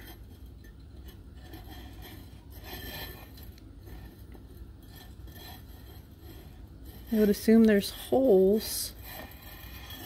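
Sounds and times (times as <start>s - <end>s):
metal pole handling rub: 0.0s - 10.0s.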